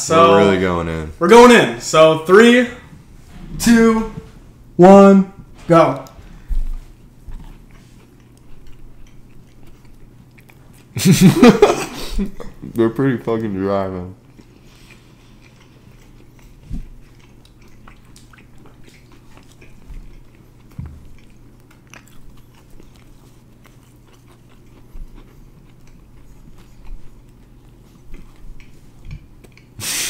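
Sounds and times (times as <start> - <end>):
people chewing biscuits: 5.8 - 30.0.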